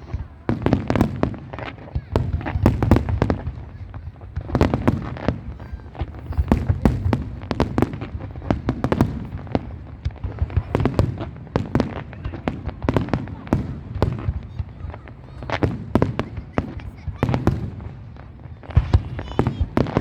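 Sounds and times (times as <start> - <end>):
fireworks bangs and crackles: 0.0 - 20.0
low rumble of firework bursts: 0.0 - 20.0.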